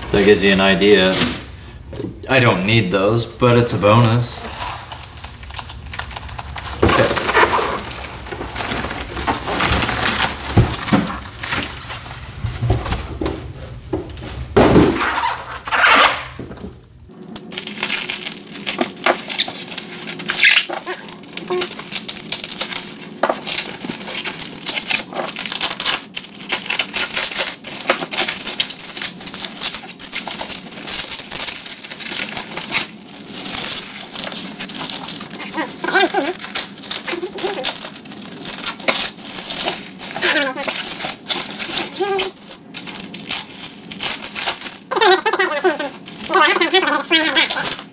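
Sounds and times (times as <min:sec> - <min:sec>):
bubble wrap crinkling and rustling: 0:00.0 - 0:47.9.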